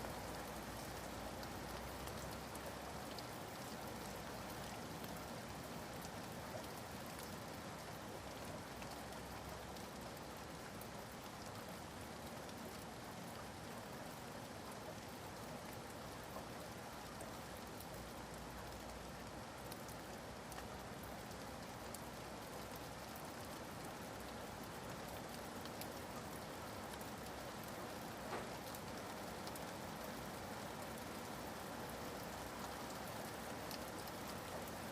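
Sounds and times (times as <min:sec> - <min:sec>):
rain hissing on surfaces: 0:00.0 - 0:34.9.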